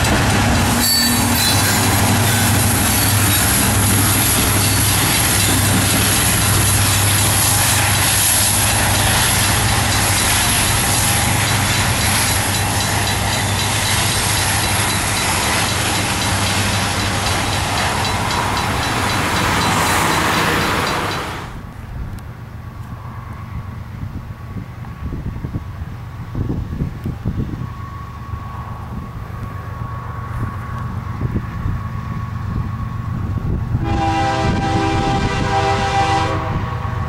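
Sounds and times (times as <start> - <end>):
locomotive engine hum: 0.0 - 37.0
rail and wheel rumble: 0.0 - 37.0.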